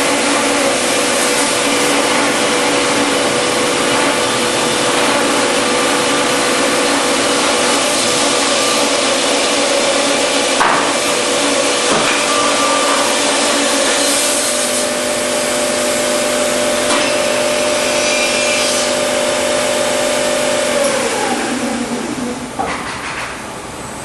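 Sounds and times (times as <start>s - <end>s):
saw cutting boards: 0.0s - 22.2s
machine whine: 0.0s - 22.9s.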